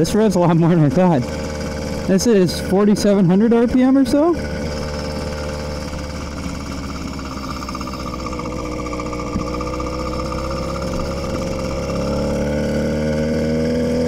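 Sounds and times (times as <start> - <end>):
small two-stroke engine running: 0.0 - 14.0.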